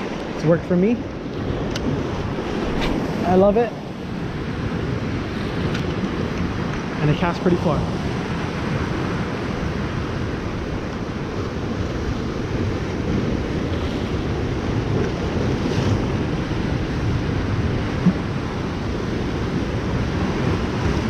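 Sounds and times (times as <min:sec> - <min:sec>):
surf washing over rocks: 0:00.0 - 0:21.0
wind buffeting microphone: 0:00.0 - 0:21.0.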